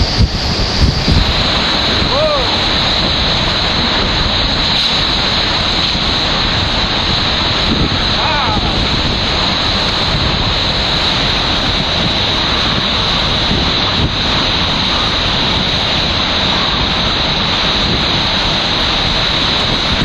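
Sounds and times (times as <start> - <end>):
hurricane wind: 0.0 - 20.0
wind-driven rain: 0.0 - 20.0.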